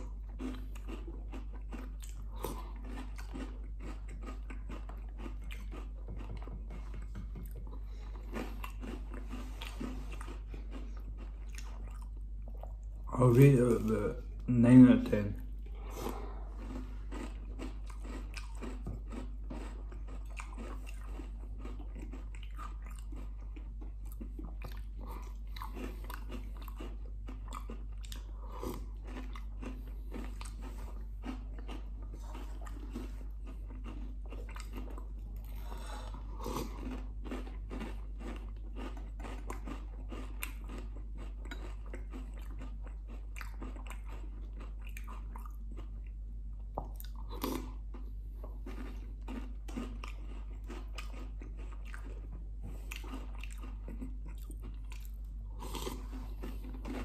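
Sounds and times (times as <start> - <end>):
person chewing crunchy cereal: 0.0 - 57.0
steady low hum: 0.0 - 57.0.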